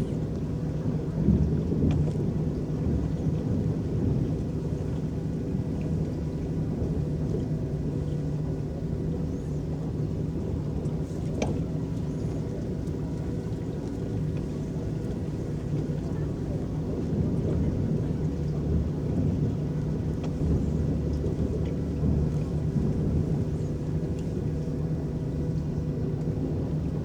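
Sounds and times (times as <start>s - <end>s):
paddles churning water: 0.0s - 27.0s.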